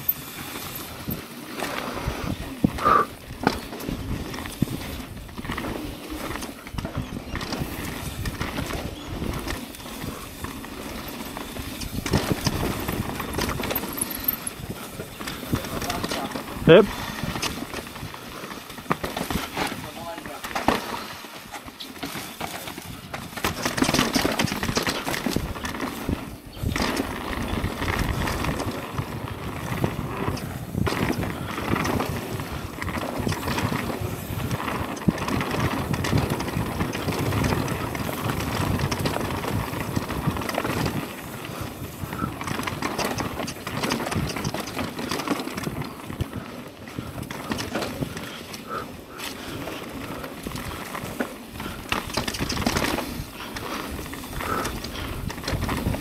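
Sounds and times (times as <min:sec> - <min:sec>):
bike clattering and rattling: 0:00.0 - 0:56.0
bike tyres rolling over dirt: 0:00.0 - 0:56.0.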